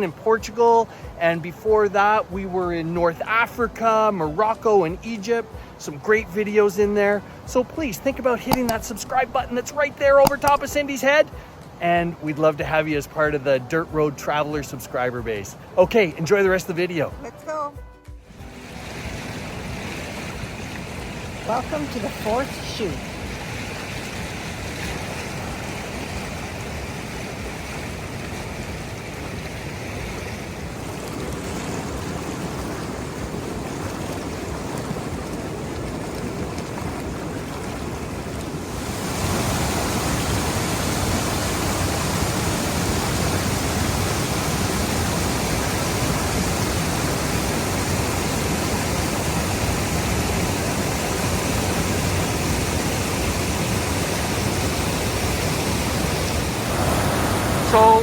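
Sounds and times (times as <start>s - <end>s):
waterfall rushing: 0.0s - 17.5s, 18.3s - 58.0s.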